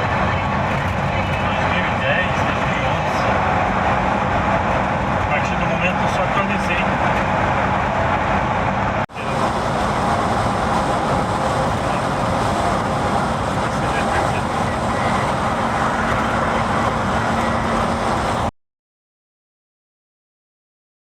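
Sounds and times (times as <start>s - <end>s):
car engine and road noise: 0.0s - 18.5s.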